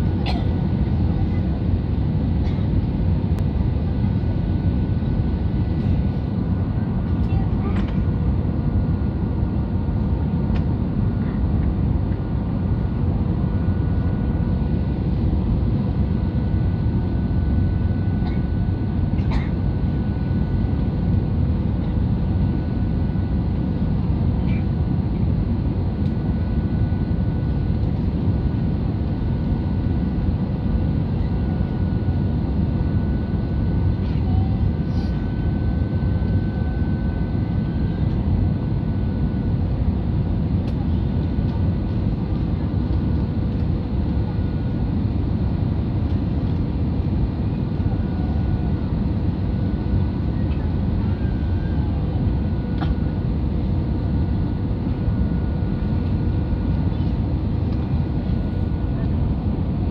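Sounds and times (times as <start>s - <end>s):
engine and airflow rush: 0.0s - 59.9s
faint steady whine: 1.0s - 59.9s.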